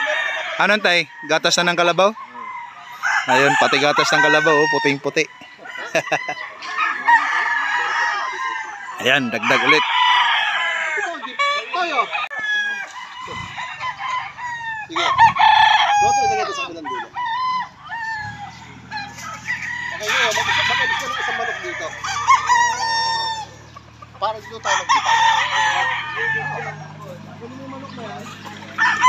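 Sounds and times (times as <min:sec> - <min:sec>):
roosters crowing: 0:00.0 - 0:29.0.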